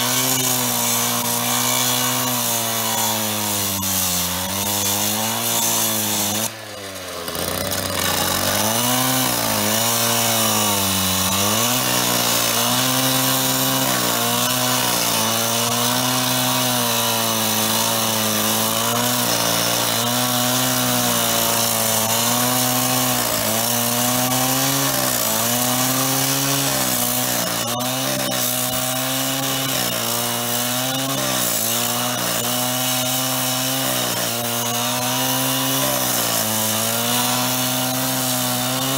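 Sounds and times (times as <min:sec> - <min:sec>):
power cutting tool cutting steel: 0:00.0 - 0:38.9.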